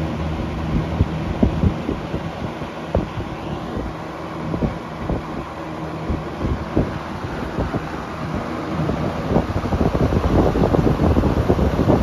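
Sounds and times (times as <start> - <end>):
box fan humming: 0.0 - 12.0
wind buffeting microphone: 0.0 - 12.0.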